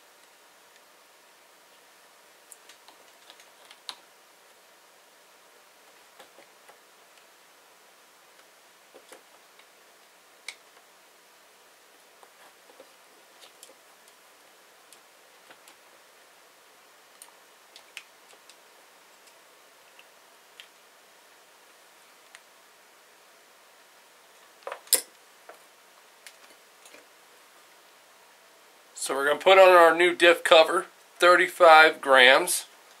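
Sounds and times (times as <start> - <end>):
steady low hiss: 0.0 - 33.0.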